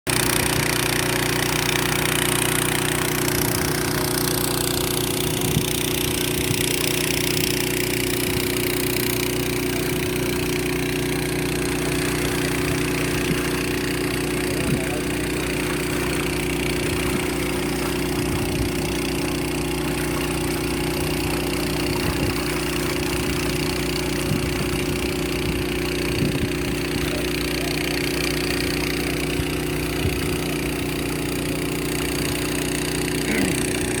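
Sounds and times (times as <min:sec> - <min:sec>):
engine idling: 0:00.1 - 0:34.0.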